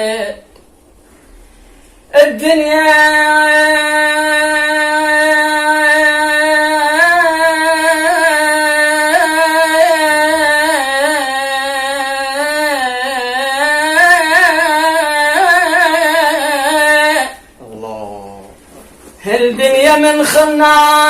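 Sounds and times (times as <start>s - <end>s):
man singing a long vowel: 0.0s - 0.4s, 2.1s - 17.4s, 19.2s - 21.0s.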